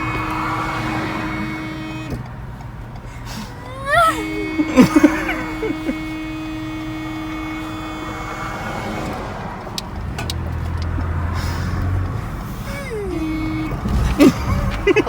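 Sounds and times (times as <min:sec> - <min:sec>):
car horn steady note: 0:00.0 - 0:15.0
car rumbling moving off: 0:00.0 - 0:15.0.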